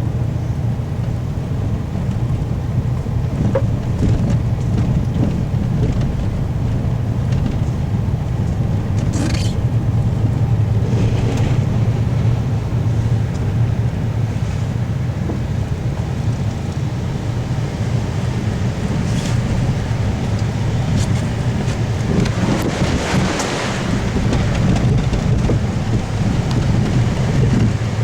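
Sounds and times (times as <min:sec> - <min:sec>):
strong wind buffeting microphone: 0:00.0 - 0:28.0.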